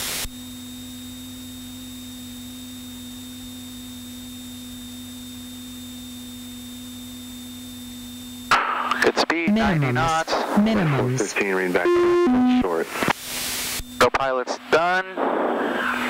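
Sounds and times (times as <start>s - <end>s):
low hum: 0.1s - 16.0s.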